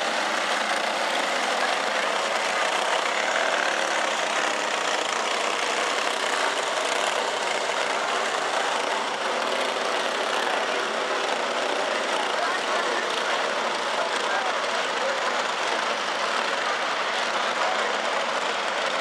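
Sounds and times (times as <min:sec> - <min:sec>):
go-kart engines racing: 0:00.0 - 0:19.0.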